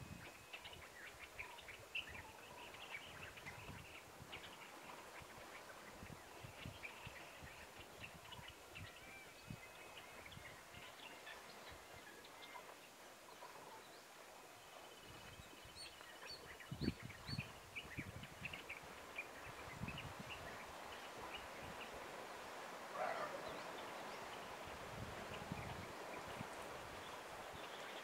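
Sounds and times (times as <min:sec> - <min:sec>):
faint outdoor ambience: 0:00.0 - 0:28.0.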